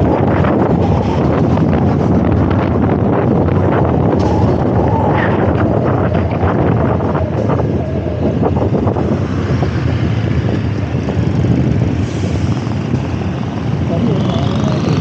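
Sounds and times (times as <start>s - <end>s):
traffic: 0.0s - 15.0s
wind rushing over microphone: 0.0s - 15.0s.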